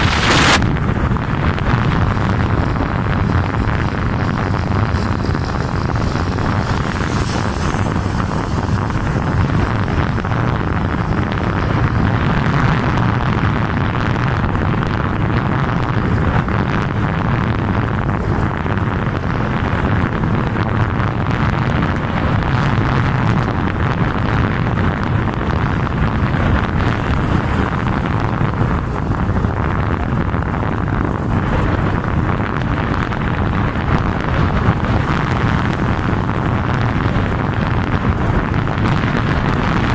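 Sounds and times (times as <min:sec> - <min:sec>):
vehicle road and engine noise: 0:00.0 - 0:39.9
wind on microphone: 0:00.0 - 0:39.9.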